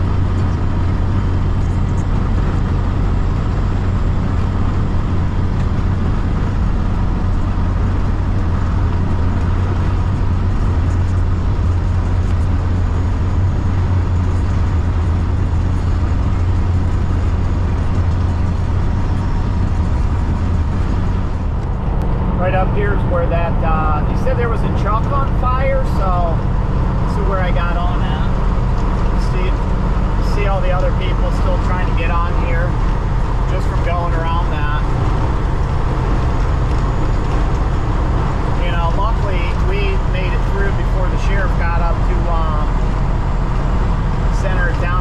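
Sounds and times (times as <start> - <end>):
diesel engine drone: 0.0 - 45.0
road noise: 0.0 - 45.0.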